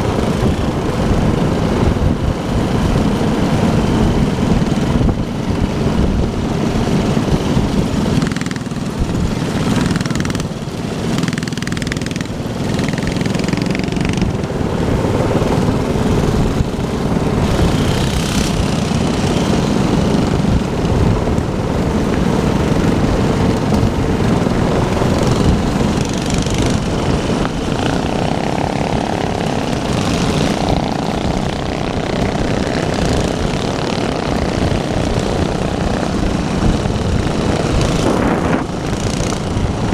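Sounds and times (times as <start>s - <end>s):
minibike engines revving: 0.0s - 39.9s.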